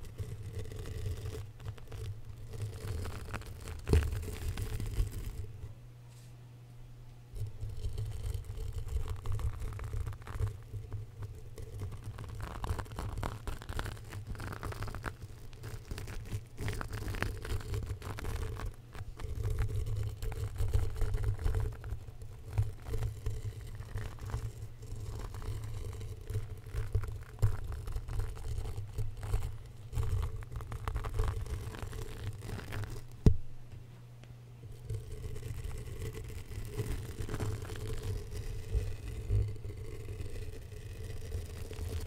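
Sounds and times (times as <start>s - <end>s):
wire brush scratching microphone: 0.0s - 6.3s, 7.3s - 33.3s, 34.6s - 42.0s.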